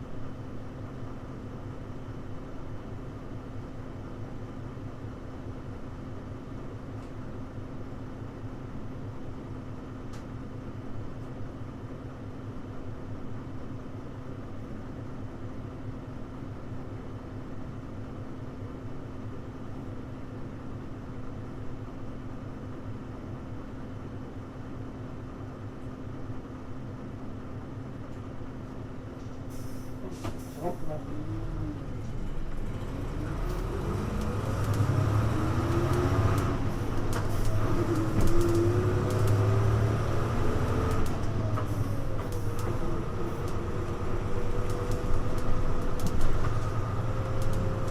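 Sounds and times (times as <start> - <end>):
diesel bus engine: 0.0 - 47.9.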